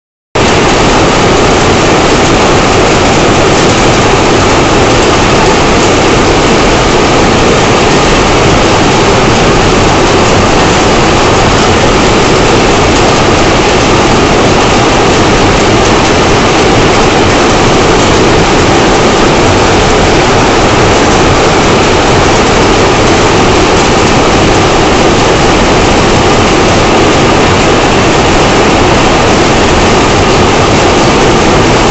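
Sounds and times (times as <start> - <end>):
loom mechanical clatter: 0.4 - 31.9.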